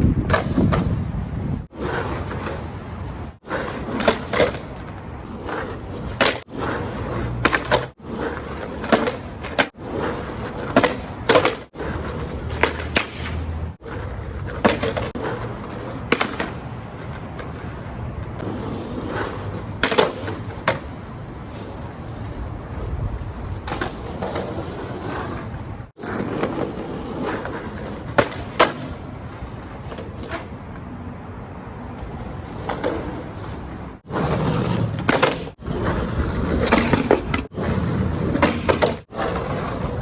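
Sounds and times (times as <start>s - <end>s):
skateboard clacks: 0.0s - 2.7s, 3.4s - 31.1s, 31.7s - 40.0s
skateboard scraping: 0.0s - 40.0s
skateboard wheels rolling on pavement: 0.0s - 40.0s.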